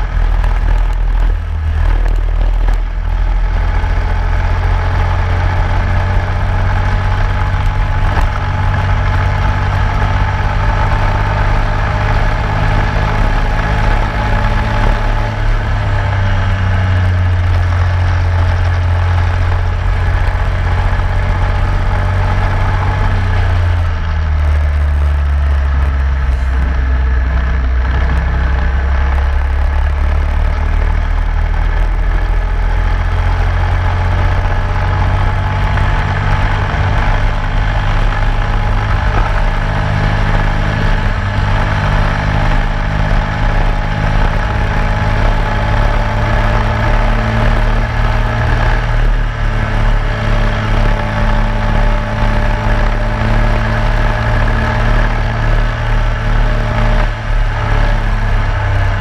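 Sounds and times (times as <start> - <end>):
kart engine running hard: 0.0 - 59.0
road and wind noise: 0.0 - 59.0.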